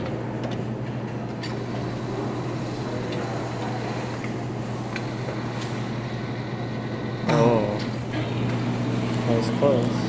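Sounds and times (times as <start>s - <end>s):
claw machine humming: 1.5s - 10.0s.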